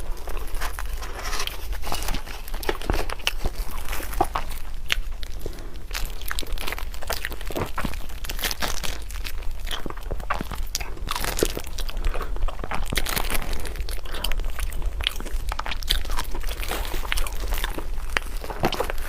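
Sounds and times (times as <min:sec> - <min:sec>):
low steady hum: 0:00.0 - 0:19.0
person chewing with crunching: 0:00.0 - 0:19.0.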